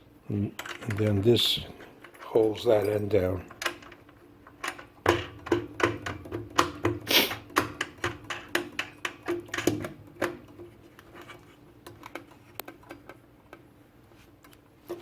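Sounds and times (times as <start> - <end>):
small metal clicks and knocks: 0.6 - 13.6.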